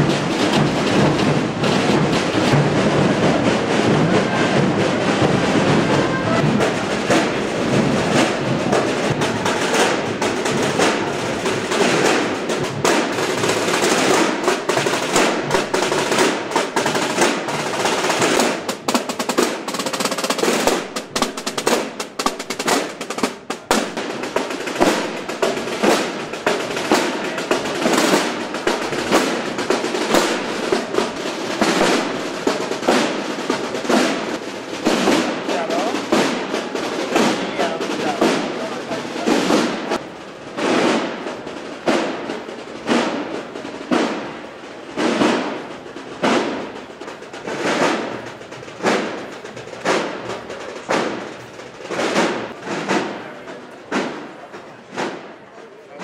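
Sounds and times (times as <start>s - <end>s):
massed drums rolling: 0.0s - 56.0s
sharp drum strokes: 0.0s - 56.0s.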